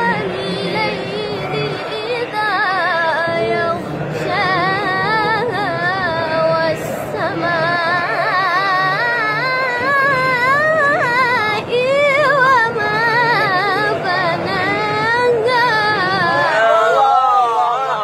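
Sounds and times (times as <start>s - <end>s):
boy chanting melodic recitation: 0.0s - 16.9s.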